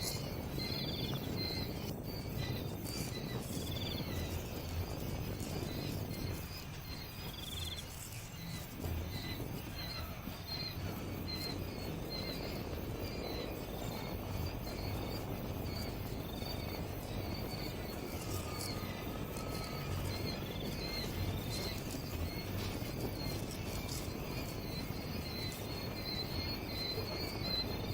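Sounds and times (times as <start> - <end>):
insects trilling: 0.0 - 27.9
small birds chirping: 0.0 - 27.9
steady low rumble: 0.0 - 27.9.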